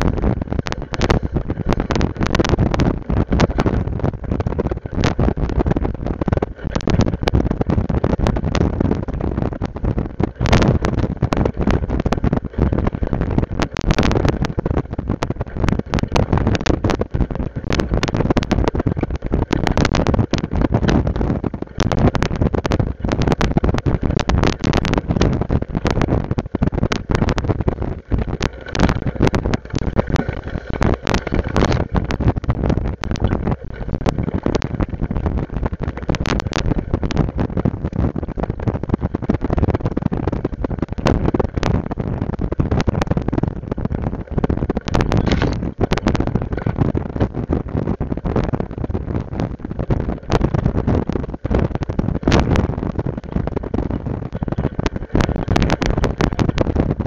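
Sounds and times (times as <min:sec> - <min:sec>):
camera rattling on rough trail: 0:00.0 - 0:57.0.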